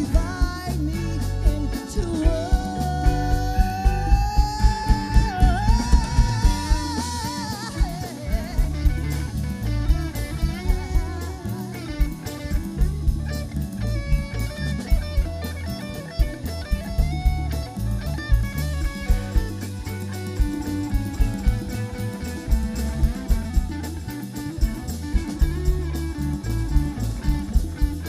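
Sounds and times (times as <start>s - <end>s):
bass guitar: 0.0s - 28.0s
drum kit: 0.0s - 28.0s
electric guitar solo: 0.0s - 28.0s.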